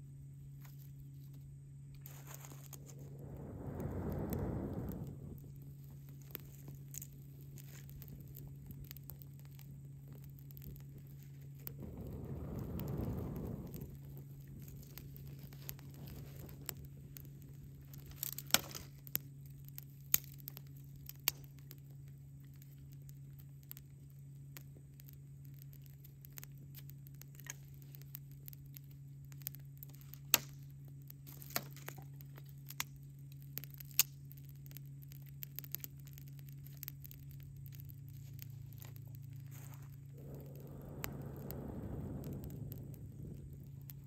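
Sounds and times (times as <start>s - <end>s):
steady low hum: 0.0s - 44.0s
campfire crackling: 0.1s - 44.0s.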